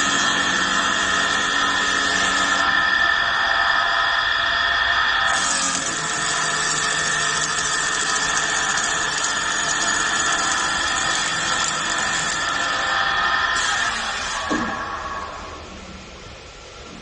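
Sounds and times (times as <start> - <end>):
wood lathe hissing: 0.0 - 3.5, 5.3 - 15.5.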